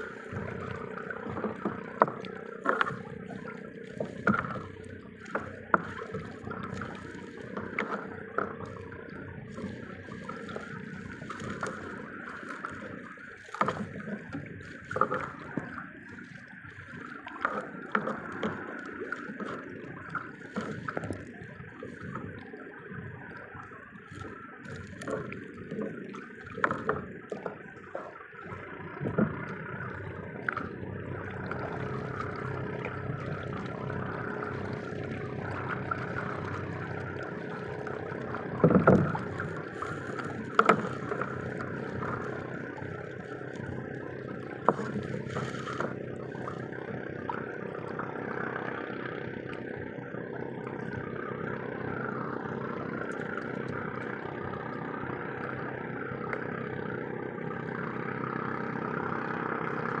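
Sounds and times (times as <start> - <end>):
boat steady hum: 0.0 - 60.0.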